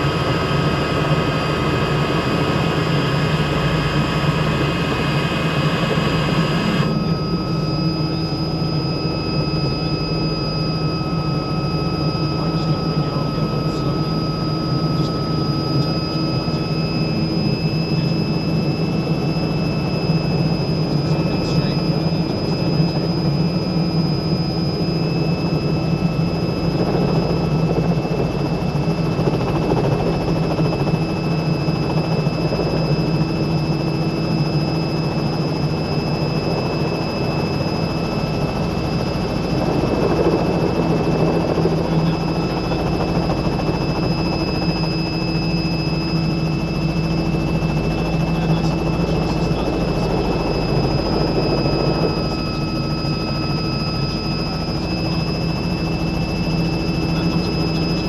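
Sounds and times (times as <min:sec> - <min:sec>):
helicopter rotor drone: 0:00.0 - 0:58.0
turbine whine: 0:00.0 - 0:58.0.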